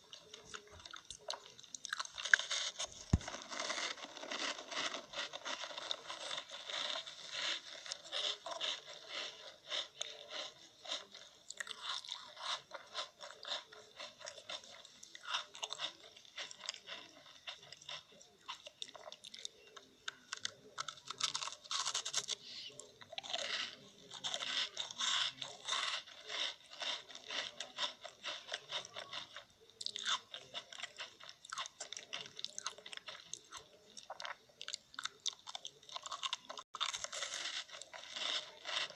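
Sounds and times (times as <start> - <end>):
chewing crisp food: 0.0 - 38.9.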